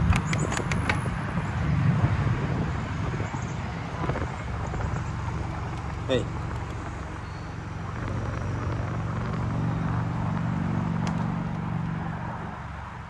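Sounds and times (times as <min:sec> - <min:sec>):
wind: 0:00.0 - 0:13.0
bicycle rolling on concrete: 0:02.4 - 0:13.0.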